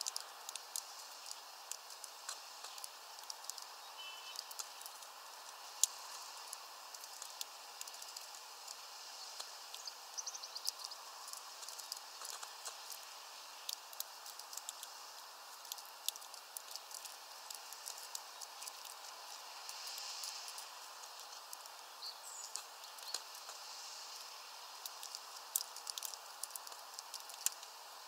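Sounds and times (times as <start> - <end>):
outdoor hiss: 0.0 - 28.0.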